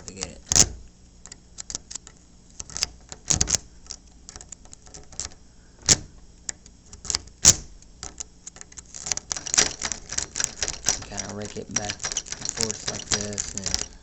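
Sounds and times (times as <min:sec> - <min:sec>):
lock pick scraping pins: 0:00.1 - 0:14.0.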